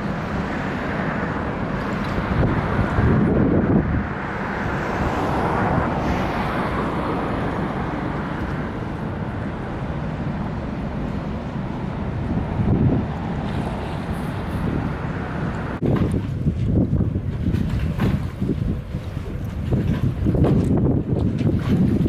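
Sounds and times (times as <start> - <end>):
low rumble: 0.0 - 22.0
wind buffeting microphone: 0.0 - 22.0.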